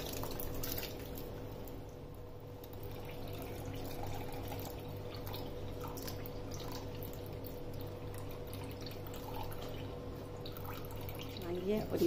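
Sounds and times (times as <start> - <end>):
broth trickling into a bowl: 0.0 - 12.0
steady low hum: 0.0 - 12.0.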